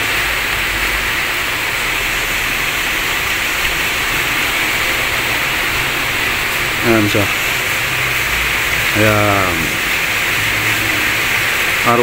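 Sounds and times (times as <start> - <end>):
rushing air hiss: 0.0 - 12.0.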